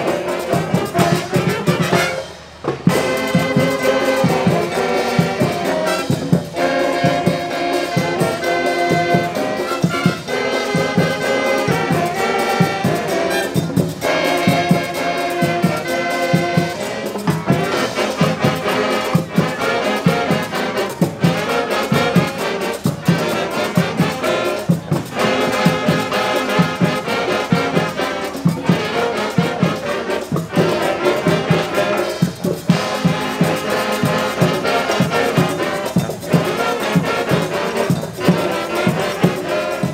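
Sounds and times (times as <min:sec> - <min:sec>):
brass band playing: 0:00.0 - 0:39.9
steady drum beat: 0:00.0 - 0:39.9.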